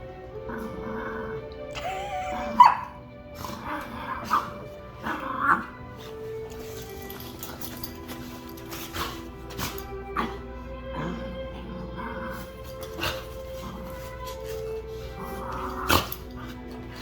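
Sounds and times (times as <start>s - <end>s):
background music: 0.0s - 17.0s
dogs growling and yipping: 0.0s - 17.0s.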